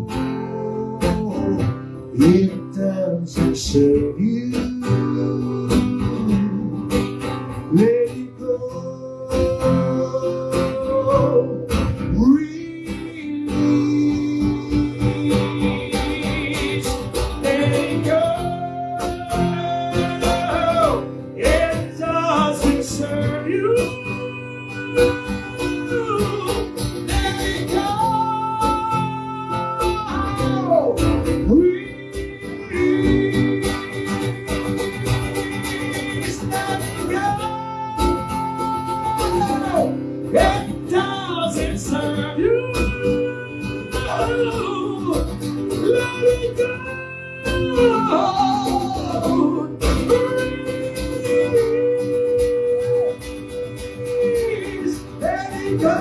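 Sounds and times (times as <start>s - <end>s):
acoustic guitar: 0.0s - 56.0s.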